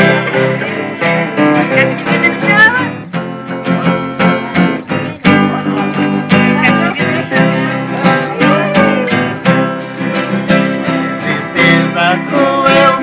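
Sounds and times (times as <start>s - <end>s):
acoustic guitar strummed: 0.0s - 13.0s.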